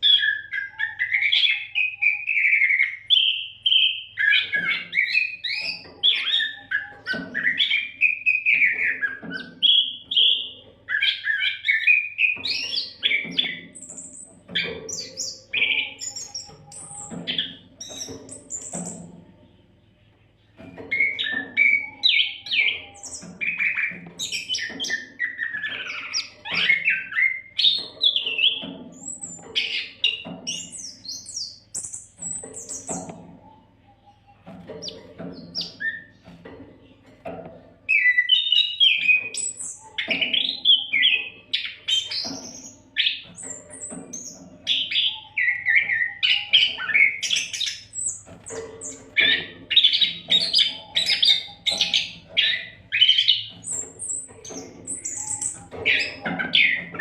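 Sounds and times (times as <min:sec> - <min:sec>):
bird singing whistles and trills: 0:00.0 - 0:19.0, 0:20.6 - 0:33.2, 0:33.8 - 0:36.3, 0:37.9 - 0:57.0.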